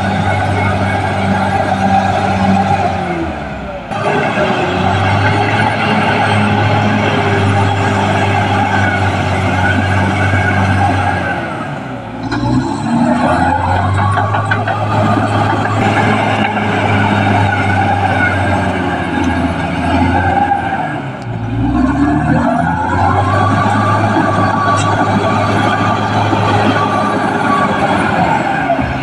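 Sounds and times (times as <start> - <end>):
bulldozer diesel engine under load: 0.0 - 29.0
steel tracks clanking: 3.9 - 29.0.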